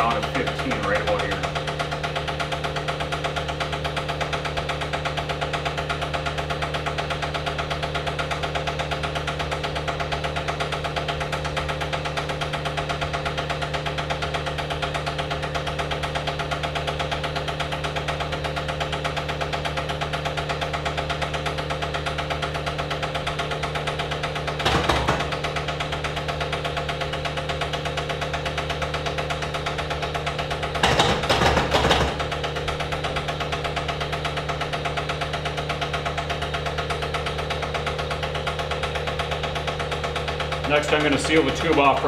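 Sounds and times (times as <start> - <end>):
vacuum pump pulsing: 0.0 - 42.0.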